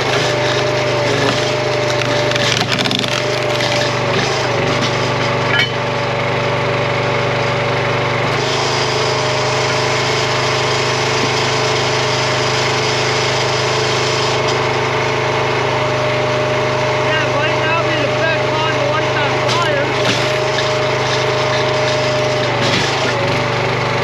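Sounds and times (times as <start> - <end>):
gas engine running: 0.0 - 24.0.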